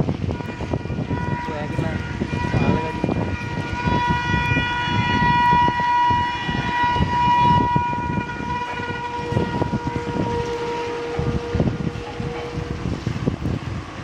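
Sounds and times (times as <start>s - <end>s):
passing train rumble: 0.0s - 14.0s
locomotive air horn blast: 0.1s - 13.4s.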